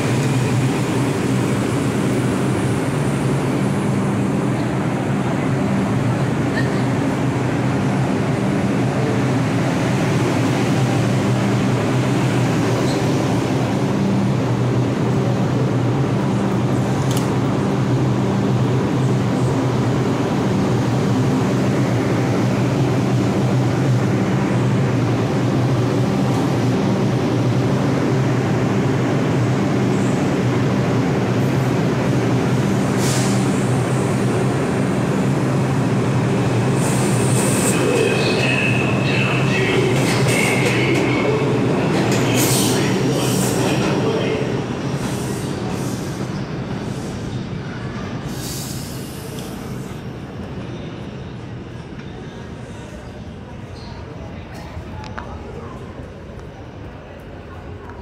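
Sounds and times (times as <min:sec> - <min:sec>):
subway train humming: 0:00.0 - 0:58.0.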